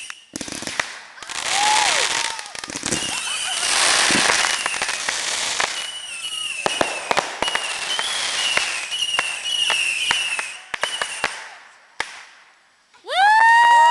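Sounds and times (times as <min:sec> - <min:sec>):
fireworks hissing and whistling: 0:00.0 - 0:12.4
fireworks crackling pops: 0:00.0 - 0:13.9.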